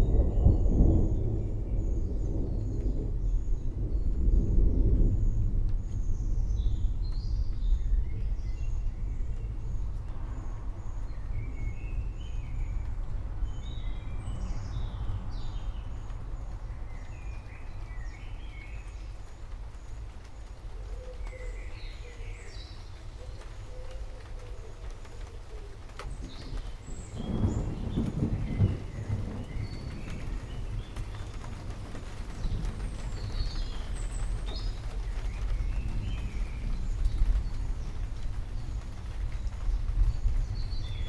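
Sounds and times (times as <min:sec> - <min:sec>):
low thunder rumble: 0:00.0 - 0:41.0.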